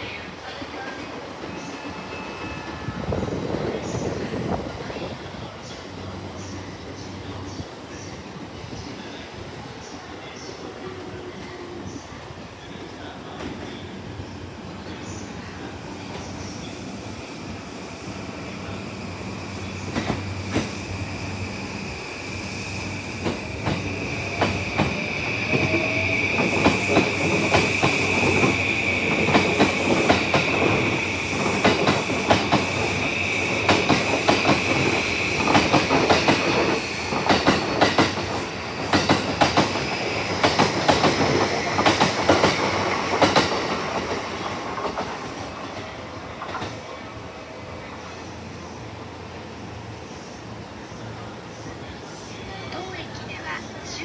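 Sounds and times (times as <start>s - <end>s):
electric train passing: 0.0s - 54.0s
high train whine: 0.0s - 54.0s.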